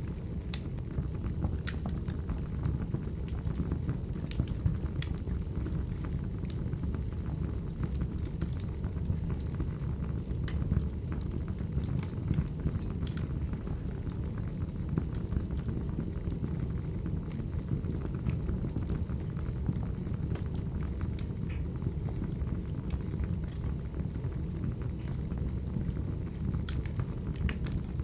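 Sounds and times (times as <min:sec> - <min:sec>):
fire crackling and popping: 0:00.0 - 0:28.0
flames rumbling: 0:00.0 - 0:28.0.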